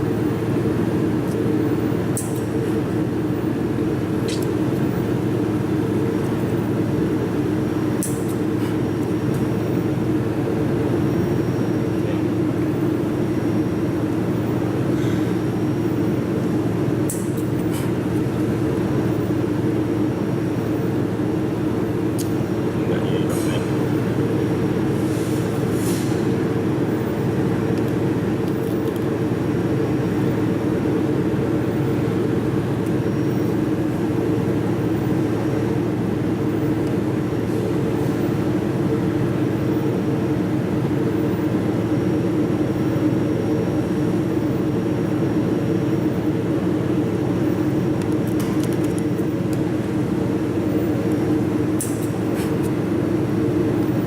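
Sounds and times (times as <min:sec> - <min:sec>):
low mechanical machine hum: 0:00.0 - 0:54.0.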